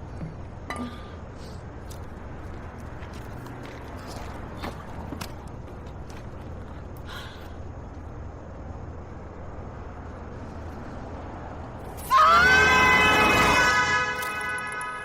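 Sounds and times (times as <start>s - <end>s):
low background noise: 0.0s - 12.2s.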